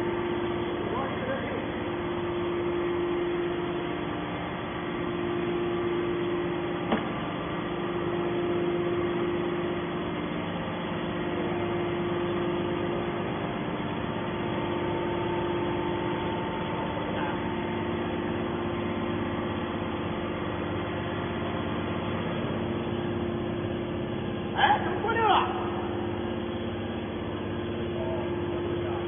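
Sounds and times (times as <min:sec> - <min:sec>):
hydraulic motor and pump humming: 0:00.0 - 0:29.0.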